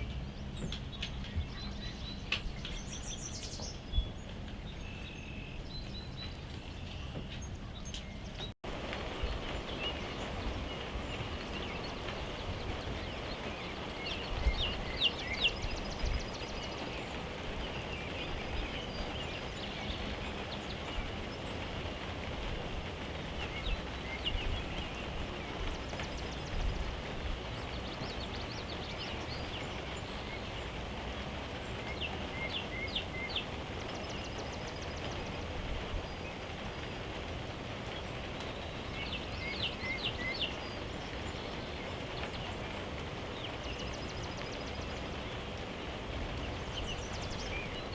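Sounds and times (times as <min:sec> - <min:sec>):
outdoor background hiss: 0:00.0 - 0:47.9
songbird singing: 0:00.0 - 0:47.9.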